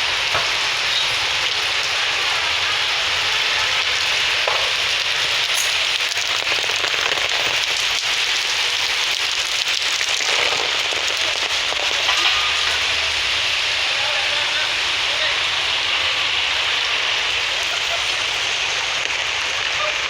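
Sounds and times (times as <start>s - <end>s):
raindrops pattering close by: 0.0s - 20.0s
steady rain falling: 0.0s - 20.0s.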